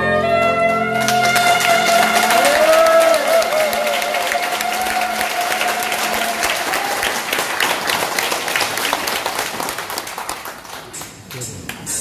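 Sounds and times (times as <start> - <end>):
audience clapping: 0.9 - 12.0.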